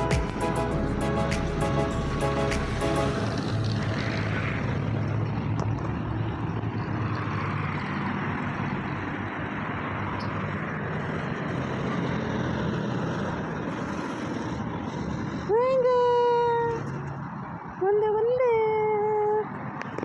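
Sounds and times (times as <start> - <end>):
road traffic rumble: 0.0 - 20.0
vehicles passing close: 0.0 - 20.0.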